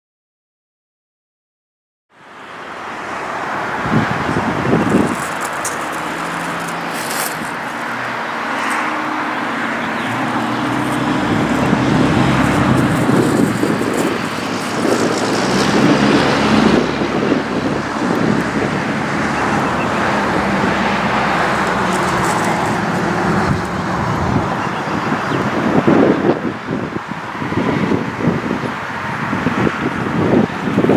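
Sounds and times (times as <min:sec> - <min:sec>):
vehicle engine and road noise: 0:02.2 - 0:30.9.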